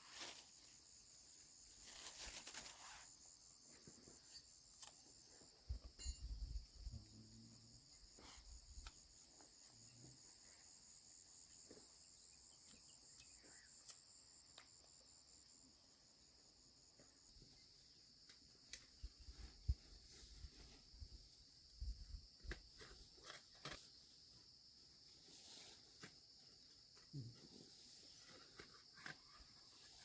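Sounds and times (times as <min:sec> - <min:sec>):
crickets trilling: 0:00.0 - 0:30.0
pulsing cricket chirp: 0:00.0 - 0:30.0.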